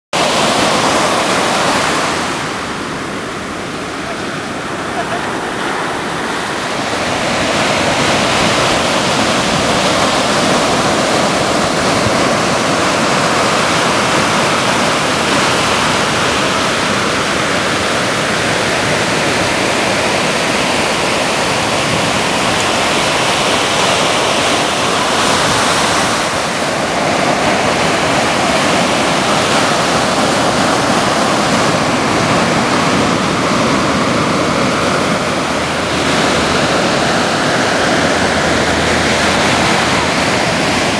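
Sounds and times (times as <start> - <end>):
ocean surf breaking: 0.2 - 40.9.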